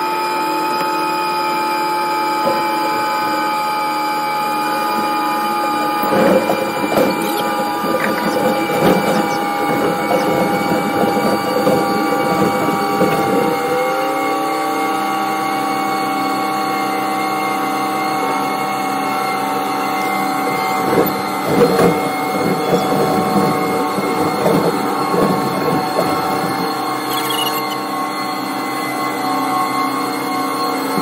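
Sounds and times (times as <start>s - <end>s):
excavator engine whine: 0.0s - 31.0s.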